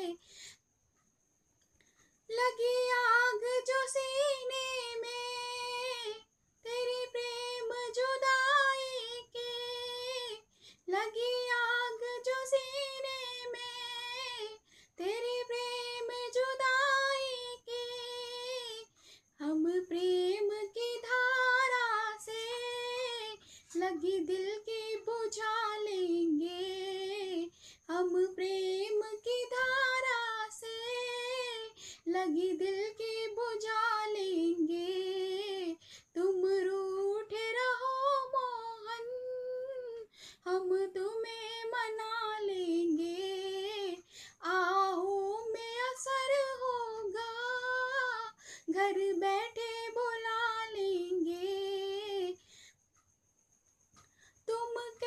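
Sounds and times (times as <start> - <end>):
woman singing devotional song: 0.0 - 0.6, 2.2 - 52.8, 53.9 - 55.0.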